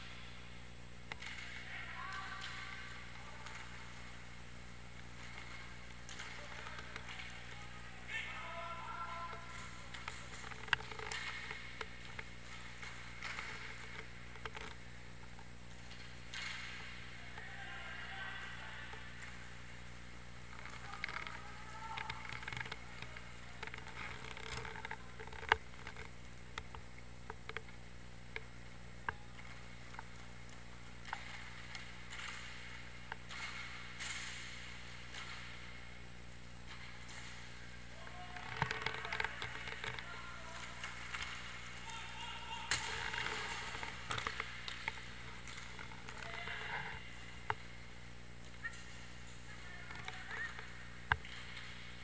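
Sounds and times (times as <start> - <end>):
steady low hum: 0.0 - 52.0
hockey sticks and puck clacking: 1.0 - 52.0.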